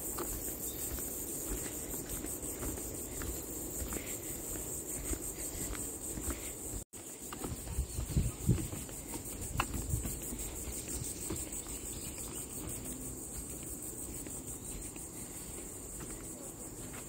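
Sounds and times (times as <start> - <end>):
footfalls on wooden boardwalk: 0.0 - 17.0
insect chorus trilling: 0.0 - 17.0.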